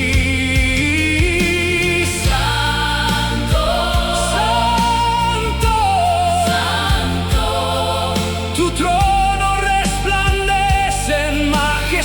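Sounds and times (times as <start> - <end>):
person singing with vibrato: 0.0 - 12.0
sustained low bass: 0.0 - 12.0.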